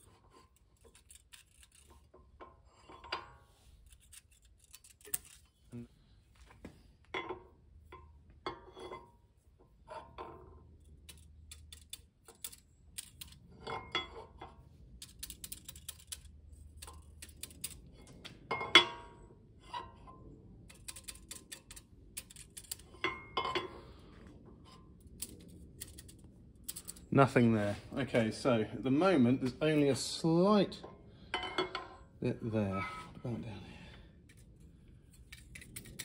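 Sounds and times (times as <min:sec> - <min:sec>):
metal scraping on metal: 0:00.0 - 0:06.0, 0:07.1 - 0:33.6.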